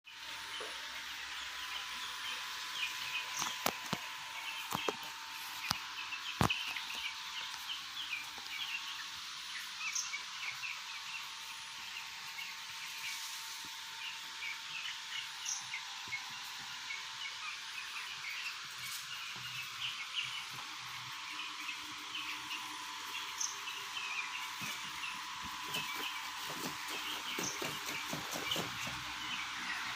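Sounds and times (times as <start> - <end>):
chicks peeping: 0.1 - 29.9.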